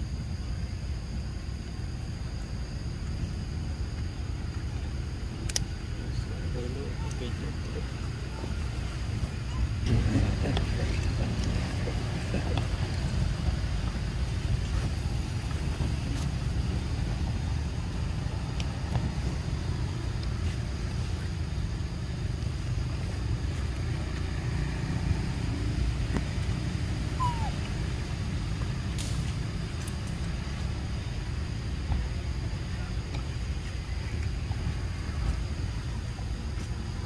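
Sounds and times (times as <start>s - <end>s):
low outdoor rumble: 0.0s - 37.0s.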